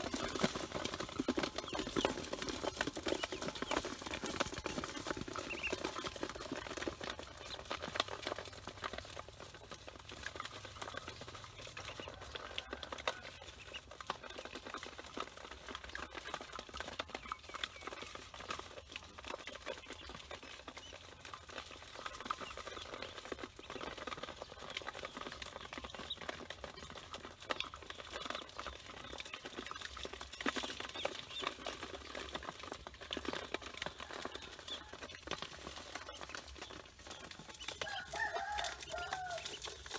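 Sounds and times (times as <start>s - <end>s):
ducklings peeping: 0.0s - 39.9s
ducklings' feet scratching and clicking: 0.0s - 39.9s.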